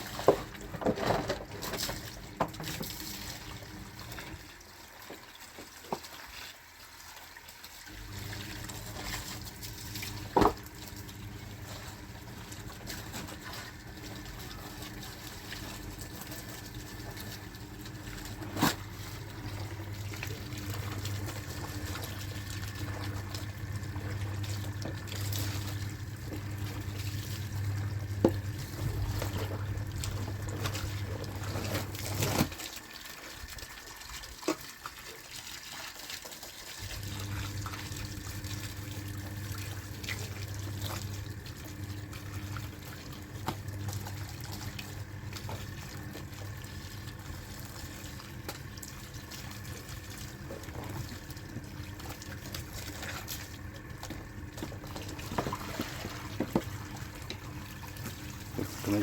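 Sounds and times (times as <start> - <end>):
washing machine motor hum: 0.0 - 59.0
water sloshing: 8.1 - 59.0.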